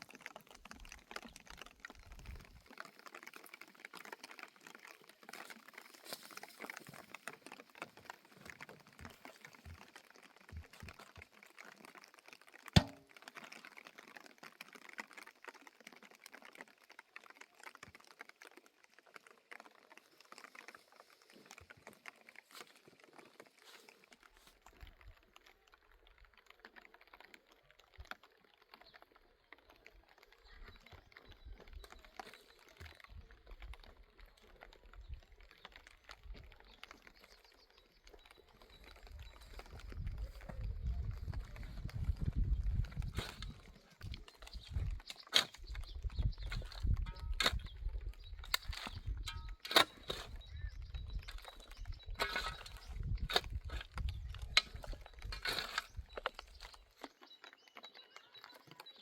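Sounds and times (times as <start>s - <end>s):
small clicks and taps: 0.0s - 59.0s.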